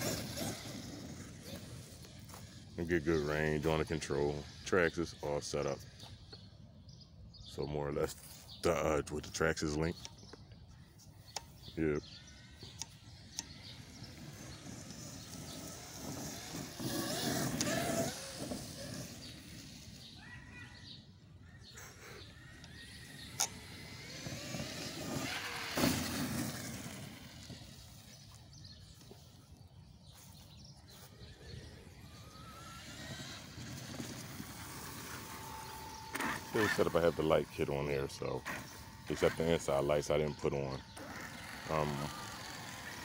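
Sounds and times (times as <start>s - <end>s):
rc truck motor whining: 0.0s - 7.1s, 11.2s - 43.0s.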